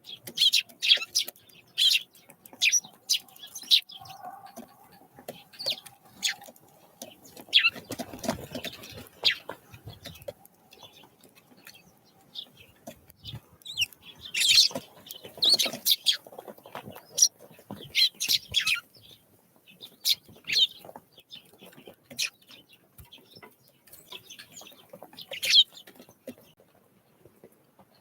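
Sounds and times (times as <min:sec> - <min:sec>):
small birds chirping: 0:00.0 - 0:26.6.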